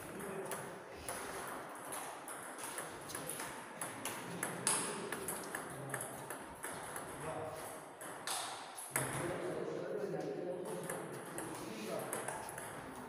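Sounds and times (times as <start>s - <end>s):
table tennis ball pinging: 0.1s - 7.3s, 8.0s - 9.2s, 10.7s - 13.0s.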